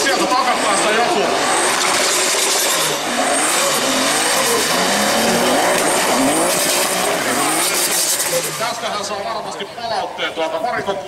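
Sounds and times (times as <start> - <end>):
car engine revving hard: 0.0 - 9.0
tyres skidding on wet asphalt: 0.0 - 9.5.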